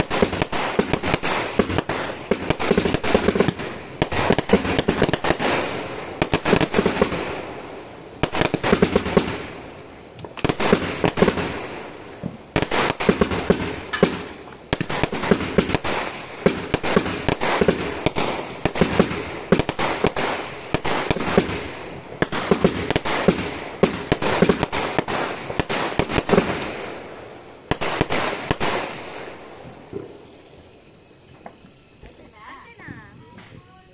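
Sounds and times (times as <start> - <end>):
fireworks bursting: 0.0 - 33.9
fireworks crackling: 0.0 - 33.9.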